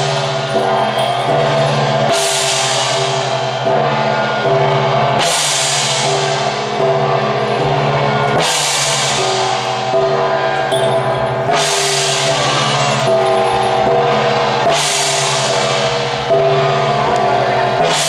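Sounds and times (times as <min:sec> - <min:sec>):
cymbal crash: 0:00.0 - 0:18.0
procession percussion music: 0:00.0 - 0:18.0.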